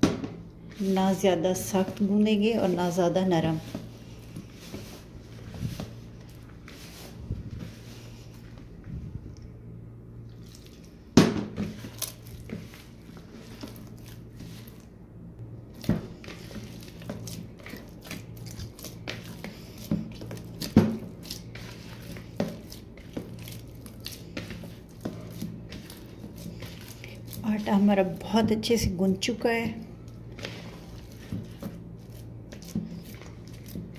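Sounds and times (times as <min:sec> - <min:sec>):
hands kneading dough: 0:00.0 - 0:33.9.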